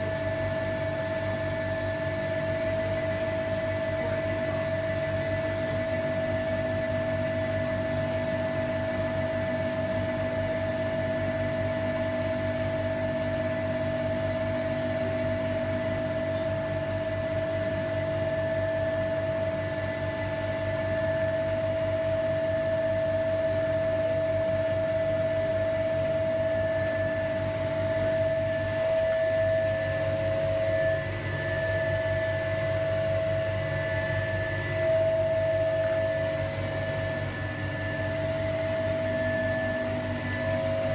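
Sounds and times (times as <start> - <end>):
vacuum pump humming and whining: 0.0 - 40.9.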